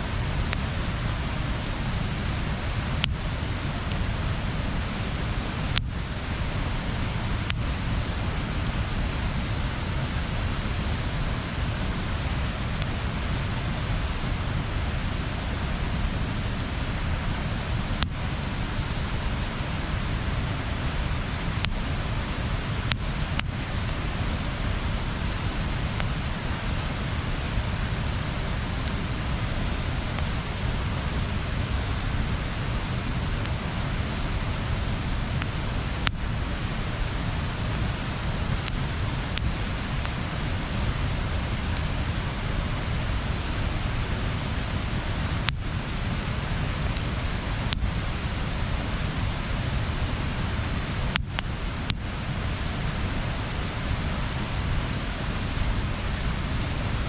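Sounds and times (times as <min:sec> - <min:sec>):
bonfire hissing: 0:00.0 - 0:57.0
burning wood crackling and popping: 0:00.0 - 0:57.0.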